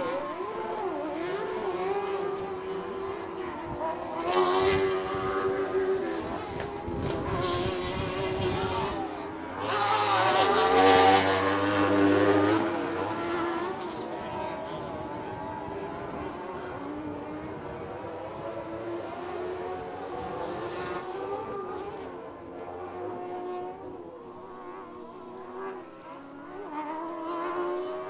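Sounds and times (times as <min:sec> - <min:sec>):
racing engines revving: 0:00.0 - 0:28.0.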